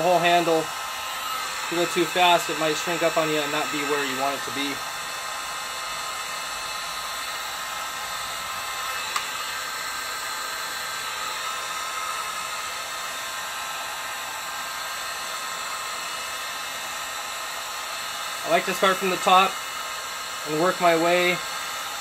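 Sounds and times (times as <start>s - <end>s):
heat gun blowing: 0.0s - 22.0s.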